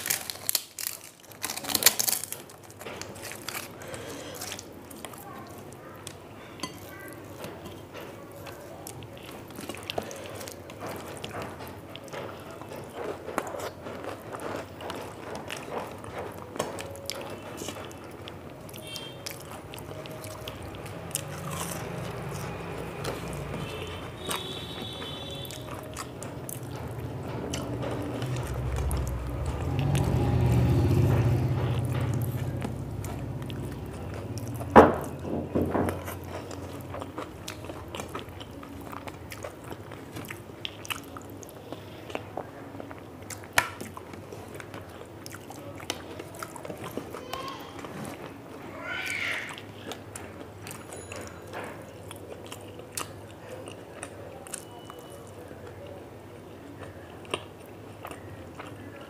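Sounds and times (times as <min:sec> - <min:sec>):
person chewing crunchy food: 0:00.0 - 0:55.9, 0:56.6 - 0:59.0.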